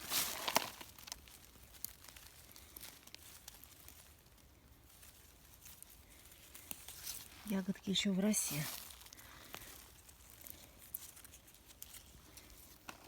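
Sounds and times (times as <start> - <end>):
faint rustling of plants: 0.0 - 13.0
small clicks of berry picking: 0.2 - 7.4, 8.7 - 13.0.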